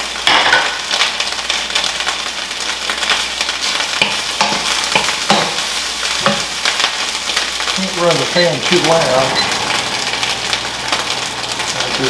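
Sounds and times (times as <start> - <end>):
meat sizzling in frying pan: 0.0 - 12.0.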